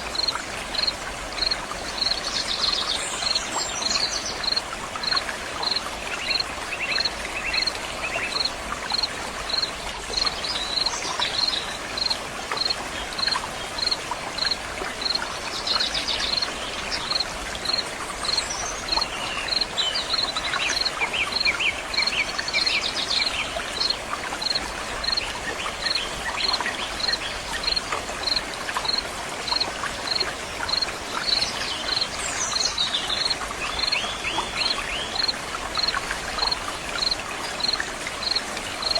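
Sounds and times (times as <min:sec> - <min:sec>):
stream of running water: 0:00.0 - 0:38.9.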